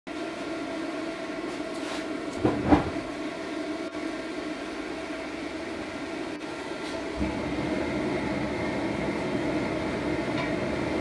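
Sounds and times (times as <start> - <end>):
forge air blower humming: 0.1 - 11.0.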